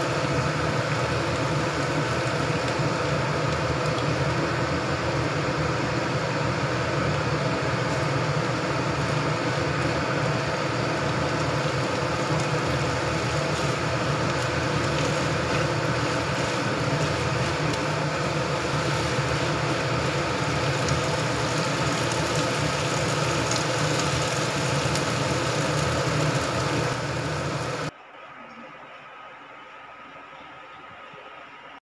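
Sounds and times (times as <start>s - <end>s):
vegetables sizzling in a wok: 0.0s - 27.9s
kitchen fan hum: 0.0s - 31.8s.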